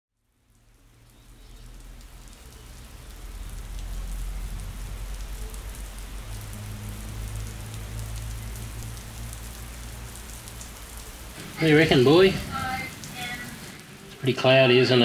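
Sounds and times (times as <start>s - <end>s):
steady rain hiss: 0.2s - 15.0s
ticking raindrops: 0.2s - 15.0s.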